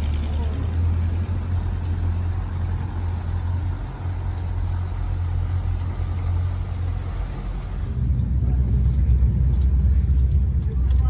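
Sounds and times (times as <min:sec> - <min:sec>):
water washing: 0:00.0 - 0:10.9.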